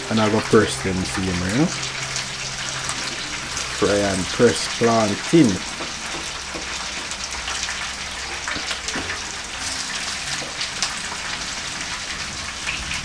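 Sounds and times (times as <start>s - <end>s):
plantain slices sizzling in oil: 0.0s - 13.0s.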